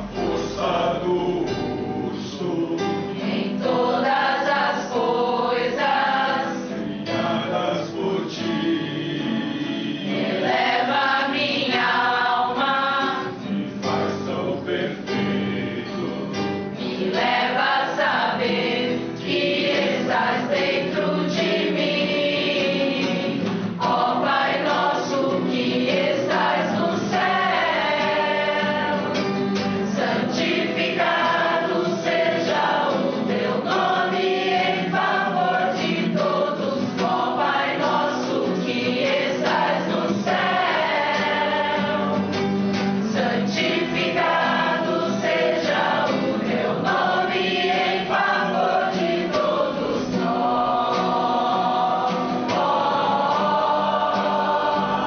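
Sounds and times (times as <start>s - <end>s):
acoustic guitar: 0.0s - 55.0s
choir singing: 0.0s - 55.0s.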